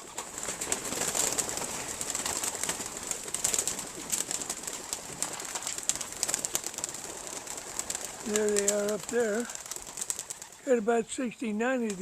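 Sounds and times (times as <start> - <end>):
clatter of wings and feet: 0.0 - 10.7
pigeons cooing: 0.0 - 11.0.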